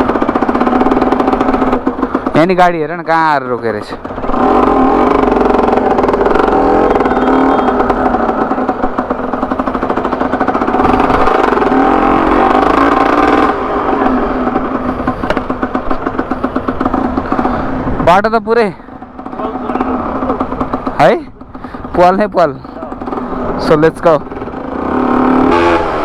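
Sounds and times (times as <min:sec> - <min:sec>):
loud two-stroke motorcycle engine: 0:00.0 - 0:26.0.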